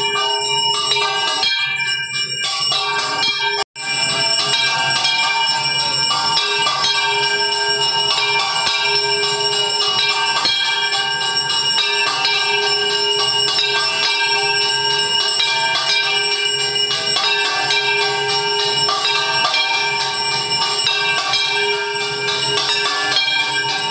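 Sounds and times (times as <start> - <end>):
jingling metal percussion: 0.0 - 23.9
temple bells ringing rapidly: 0.0 - 23.9.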